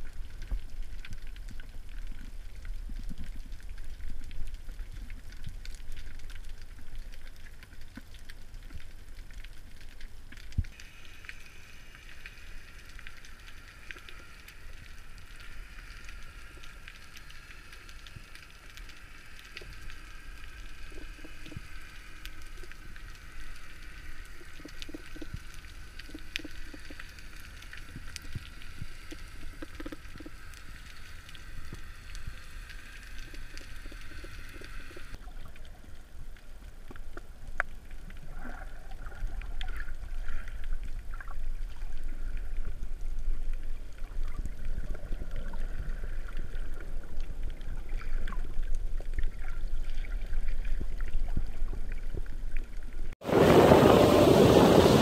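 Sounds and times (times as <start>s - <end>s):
small clicks and crackles: 0.0s - 53.2s
underwater rumble: 0.0s - 55.0s.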